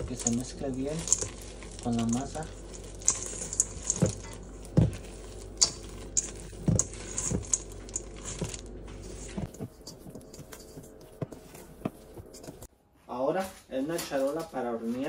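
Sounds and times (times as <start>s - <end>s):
spoon clinking and scraping steel bowl: 0.0s - 12.7s.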